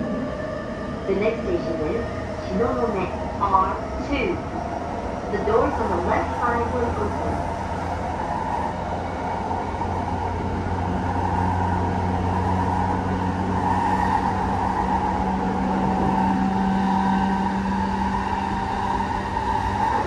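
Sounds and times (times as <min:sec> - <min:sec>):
wheels rumbling on rail: 0:00.0 - 0:20.0.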